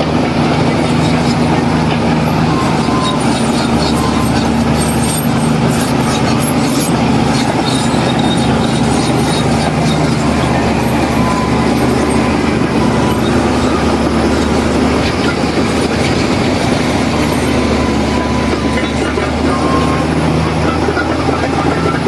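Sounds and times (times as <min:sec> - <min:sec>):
heavy diesel engine drone: 0:00.0 - 0:22.0.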